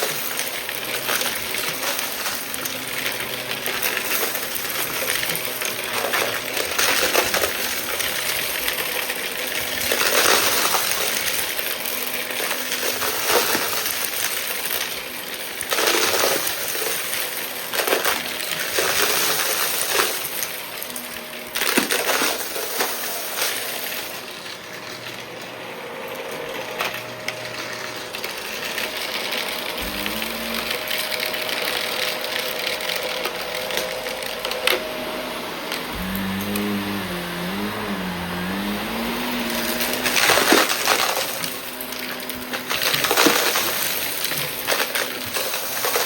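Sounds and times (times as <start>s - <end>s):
debris rattling in vacuum: 0.0s - 46.0s
vacuum cleaner running: 0.0s - 46.0s.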